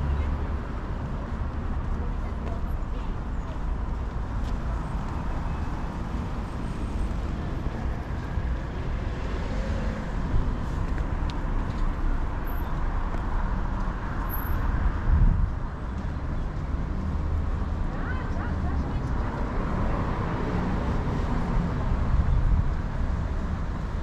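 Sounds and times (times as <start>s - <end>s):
street traffic: 0.0s - 24.0s.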